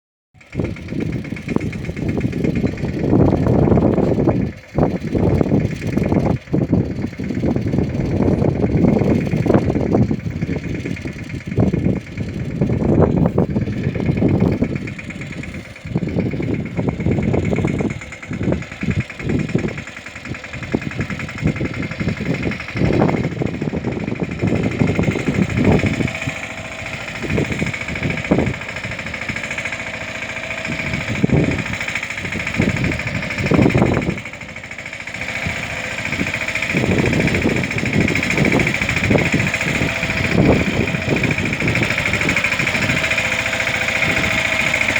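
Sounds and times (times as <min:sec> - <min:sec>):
tractor diesel engine running: 0:00.4 - 0:44.9.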